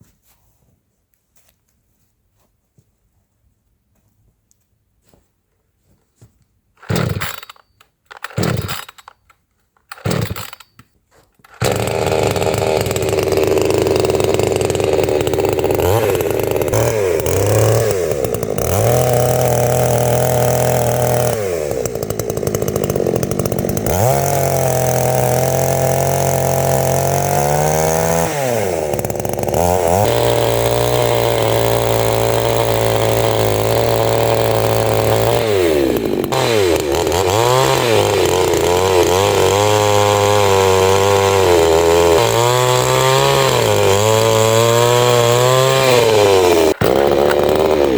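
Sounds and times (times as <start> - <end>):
chainsaw engine revving: 6.8 - 10.8, 11.4 - 47.9
starter cord rasps: 6.8 - 47.9.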